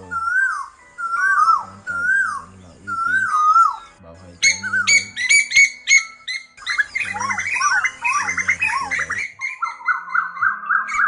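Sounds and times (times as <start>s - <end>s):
birds chattering calls: 0.0s - 11.0s
fast rising bird notes: 0.0s - 11.0s.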